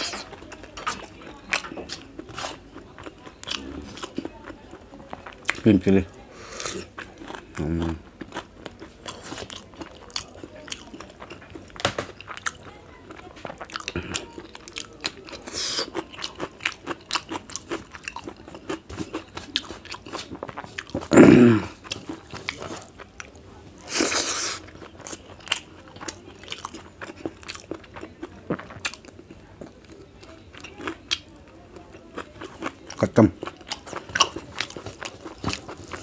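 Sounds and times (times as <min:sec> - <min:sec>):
chewing and crunching: 0:00.0 - 0:36.0.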